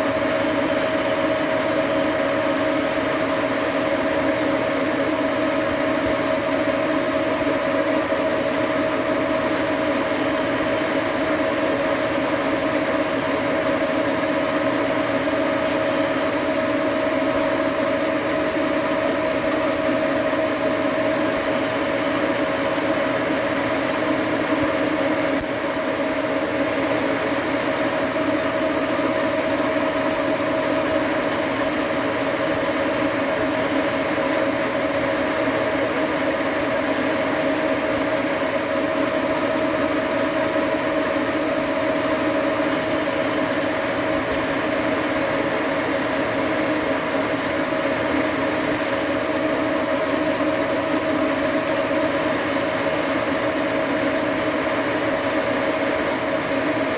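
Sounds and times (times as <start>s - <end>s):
lathe running with whine: 0.0s - 56.9s.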